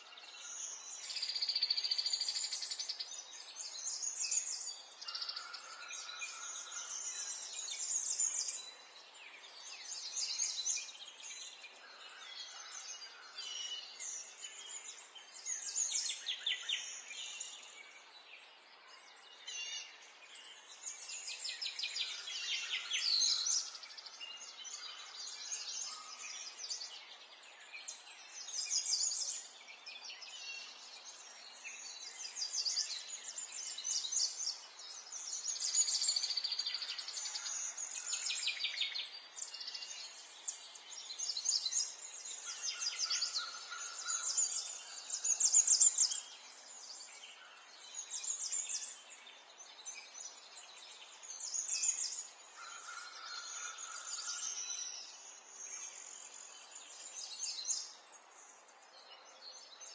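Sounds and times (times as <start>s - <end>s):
songbirds singing and chirping: 0.0s - 59.9s
faint background hiss: 0.1s - 59.9s.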